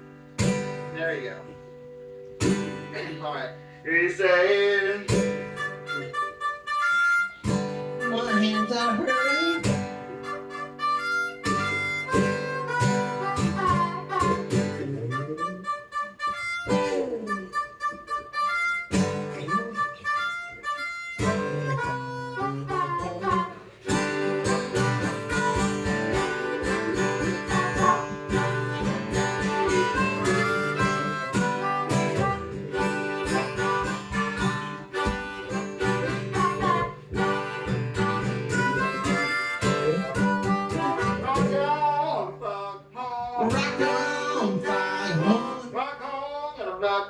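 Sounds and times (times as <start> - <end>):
instrumental rock music: 0.0 - 3.1, 5.1 - 42.0.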